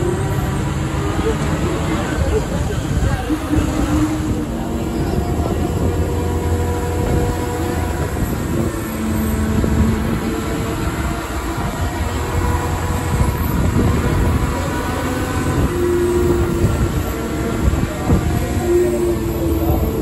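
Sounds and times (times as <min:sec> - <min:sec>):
bus engine and road rumble: 0:00.0 - 0:20.0
engine tones rising and falling: 0:00.0 - 0:20.0.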